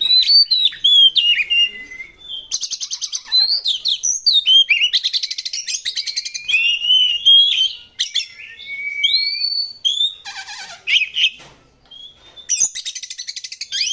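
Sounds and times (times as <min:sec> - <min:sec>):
bird singing varied song: 0:00.0 - 0:13.9.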